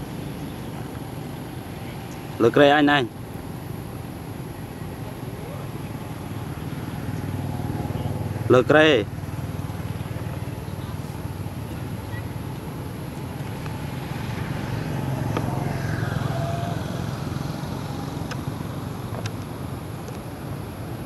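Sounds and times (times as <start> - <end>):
low motor rumble: 0.0 - 21.0.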